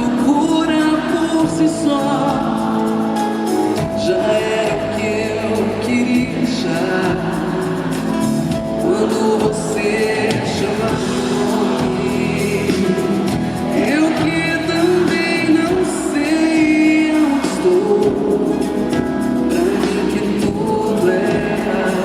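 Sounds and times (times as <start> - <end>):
band playing: 0.0 - 22.0
person singing: 0.0 - 22.0.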